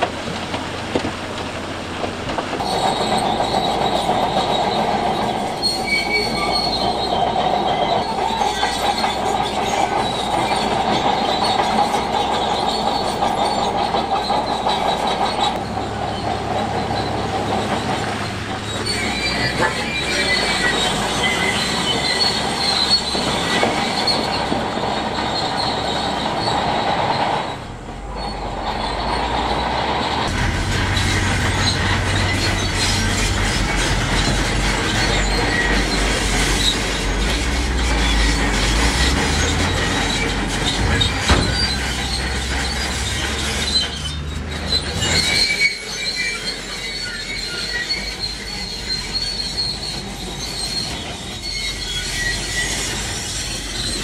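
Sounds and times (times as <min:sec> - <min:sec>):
diesel engine under load: 0:00.0 - 0:54.0
steel tracks squealing: 0:00.0 - 0:54.0.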